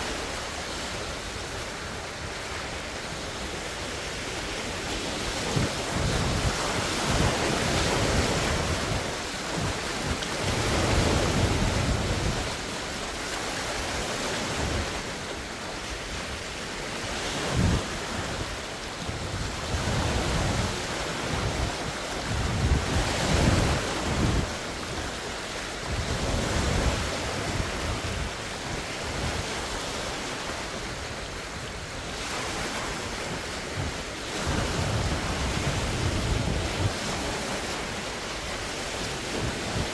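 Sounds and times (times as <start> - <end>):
waves breaking on shore: 0.0 - 39.9
wind buffeting microphone: 0.9 - 15.2, 15.9 - 39.9.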